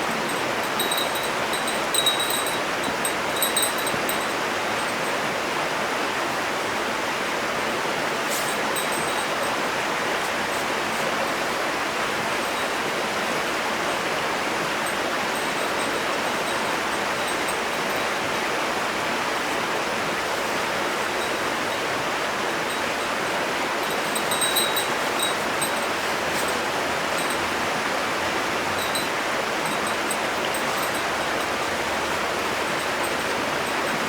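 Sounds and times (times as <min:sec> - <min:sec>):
running water rushing: 0:00.0 - 0:34.0.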